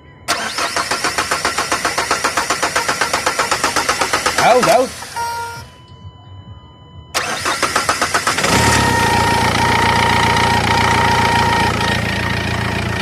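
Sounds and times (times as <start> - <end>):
engine cranked by starter: 0.3 - 5.2, 7.2 - 13.0
car engine idling: 0.3 - 5.8, 7.2 - 13.0.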